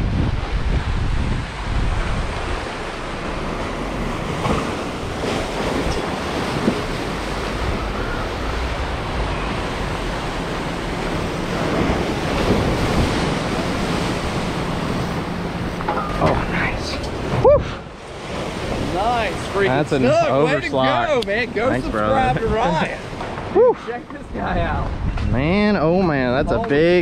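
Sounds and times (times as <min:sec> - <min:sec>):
waves breaking over rocks: 0:00.0 - 0:25.0.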